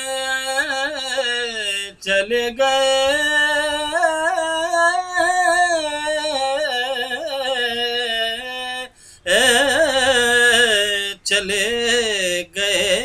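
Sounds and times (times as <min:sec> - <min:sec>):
man singing: 0:00.0 - 0:13.0.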